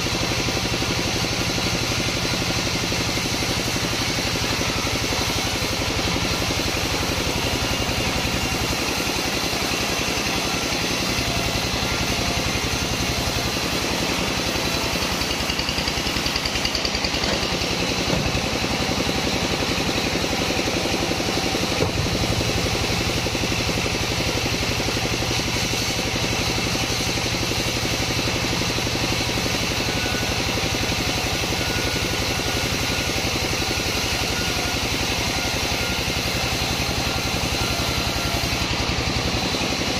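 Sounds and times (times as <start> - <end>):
sawmill saw cutting timber: 0.0 - 39.9.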